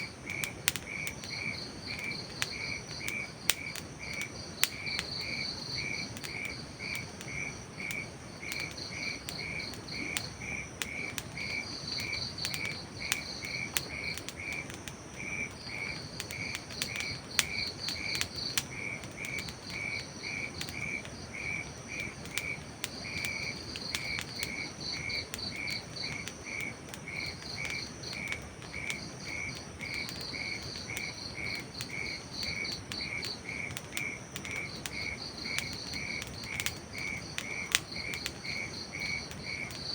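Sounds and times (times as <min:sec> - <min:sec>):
campfire crackling: 0:00.0 - 0:39.9
crickets chirping: 0:00.0 - 0:39.9
insect calling in rapid pulses: 0:00.0 - 0:39.9
soft steady hiss: 0:00.0 - 0:39.9.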